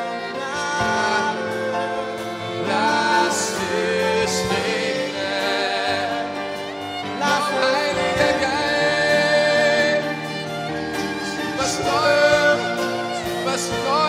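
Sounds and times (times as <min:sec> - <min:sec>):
person singing: 0:00.0 - 0:14.0
sustained instrumental chords: 0:00.0 - 0:14.0.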